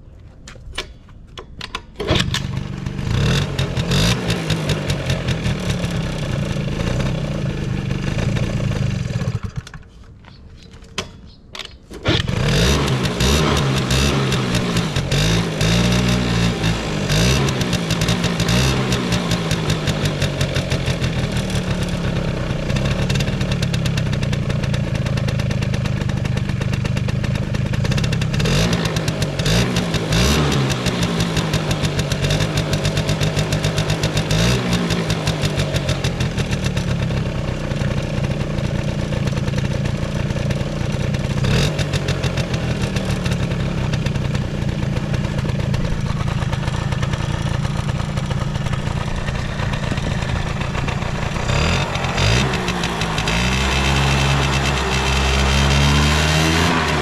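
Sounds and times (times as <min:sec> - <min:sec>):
scooter engine idling: 0:02.1 - 0:09.8, 0:12.2 - 0:57.0
scooter throttle blips: 0:10.3 - 0:57.0.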